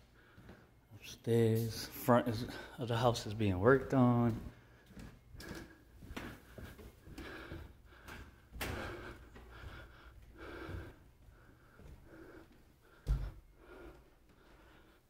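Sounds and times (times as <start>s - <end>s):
person breathing heavily: 0.0s - 0.8s, 2.2s - 3.0s, 4.4s - 15.0s.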